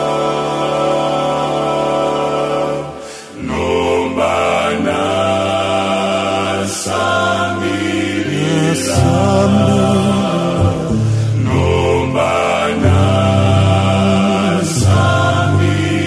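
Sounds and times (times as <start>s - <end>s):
choir singing gospel harmony: 0.0s - 16.0s.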